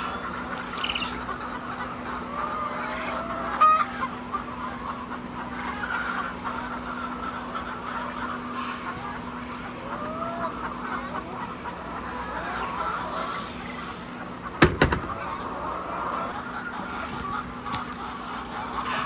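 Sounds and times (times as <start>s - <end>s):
hens clucking: 0.0s - 14.5s, 15.1s - 19.0s
steady hum: 0.0s - 19.0s.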